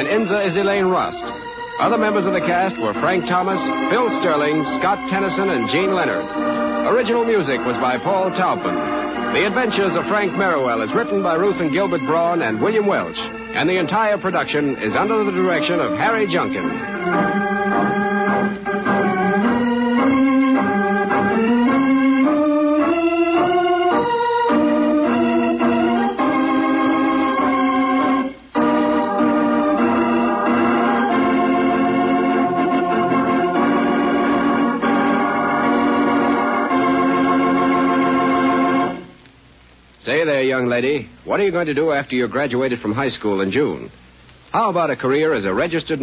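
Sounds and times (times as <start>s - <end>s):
organ music: 0.0s - 43.9s, 44.6s - 46.0s.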